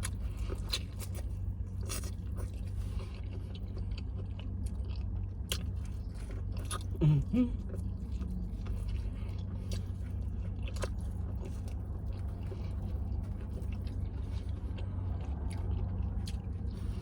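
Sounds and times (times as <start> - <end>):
person chewing: 0.0 - 17.0
steady low hum: 0.0 - 17.0.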